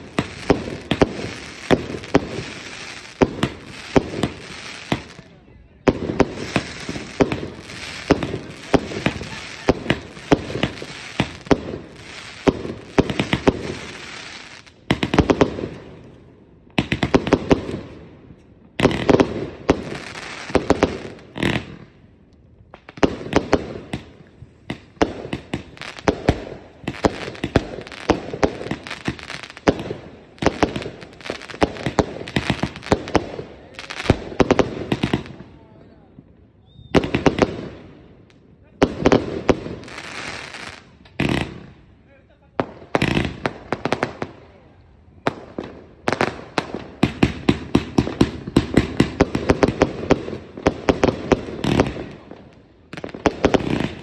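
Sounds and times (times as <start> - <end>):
fireworks firing shots and bursts: 0.0 - 54.0.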